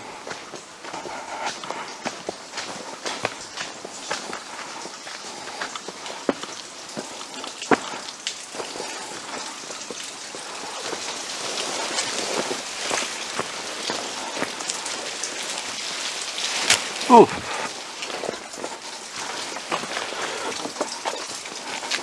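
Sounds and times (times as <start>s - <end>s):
sharp clicks of raindrops: 0.0s - 22.0s
steady rain hiss: 0.0s - 22.0s.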